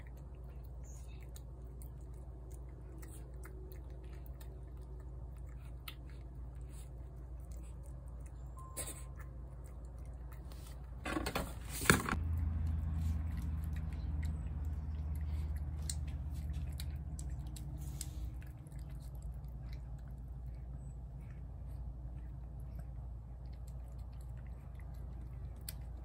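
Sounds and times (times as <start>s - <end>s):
cat chewing and licking: 0.0s - 11.0s, 11.7s - 26.0s
steady low hum: 0.0s - 26.0s.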